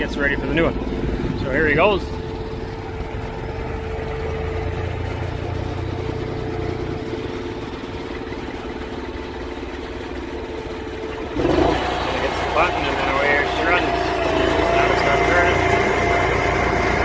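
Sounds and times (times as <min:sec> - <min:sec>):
deep rumble: 0:00.0 - 0:17.0
machine engine and hydraulics humming: 0:00.0 - 0:17.0
steady machine whine: 0:00.0 - 0:17.0.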